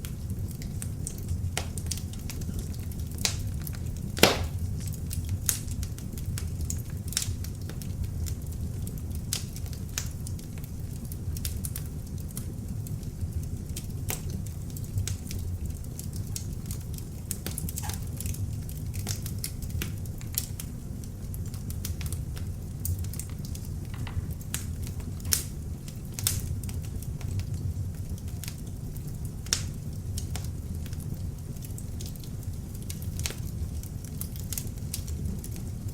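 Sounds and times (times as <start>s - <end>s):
fire crackling in fireplace: 0.0s - 35.9s.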